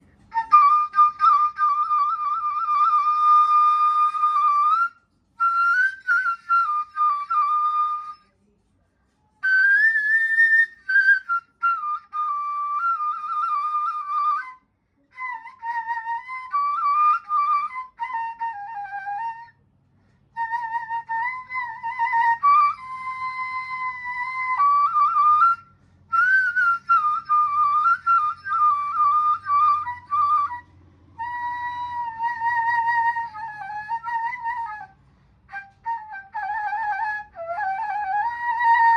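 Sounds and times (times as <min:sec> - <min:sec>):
breathy reed flute melody: 0:00.0 - 0:08.4, 0:09.4 - 0:19.6, 0:20.3 - 0:38.9.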